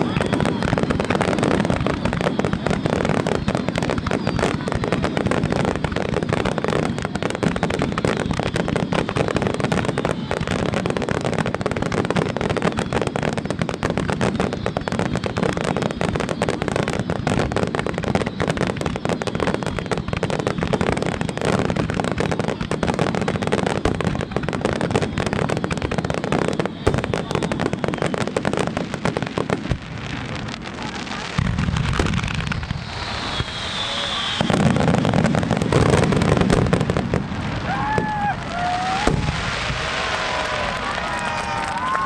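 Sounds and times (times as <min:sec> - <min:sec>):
fireworks booming and crackling: 0:00.0 - 0:42.0.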